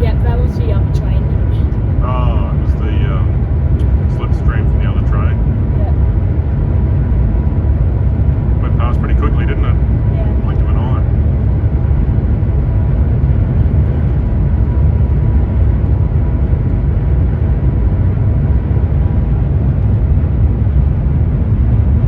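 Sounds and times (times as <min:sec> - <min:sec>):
train interior low rumble: 0:00.0 - 0:22.0.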